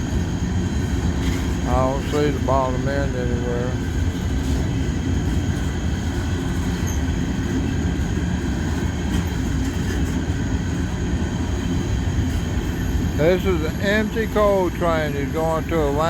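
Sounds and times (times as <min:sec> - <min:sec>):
train cars rolling on rails: 0:00.0 - 0:16.0.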